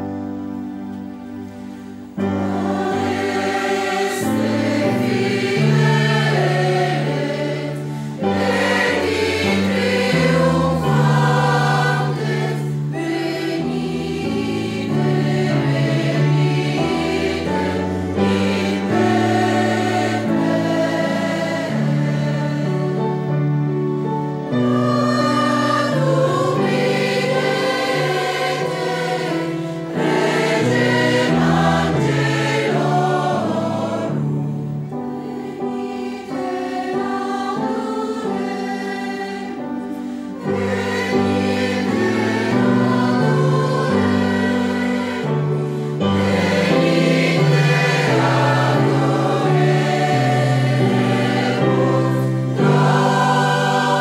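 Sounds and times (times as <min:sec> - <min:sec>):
mixed choir singing in parts: 0:00.0 - 0:54.0.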